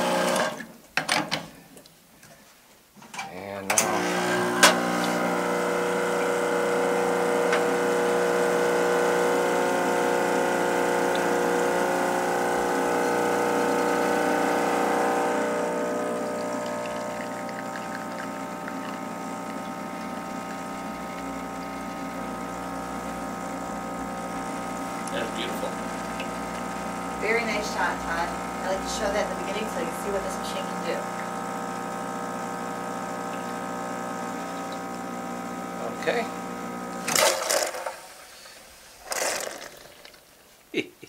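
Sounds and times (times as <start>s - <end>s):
espresso machine pump humming: 0.0s - 0.6s, 3.8s - 38.3s.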